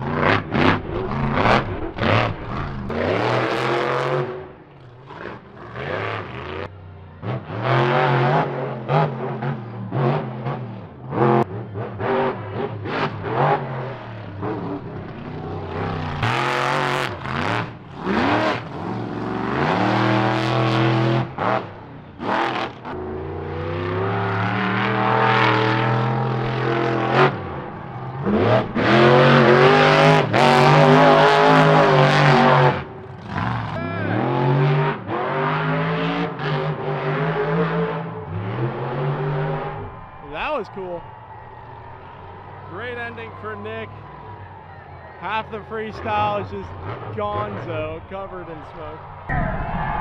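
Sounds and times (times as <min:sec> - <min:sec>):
monster truck engine revving: 0:00.0 - 0:50.0.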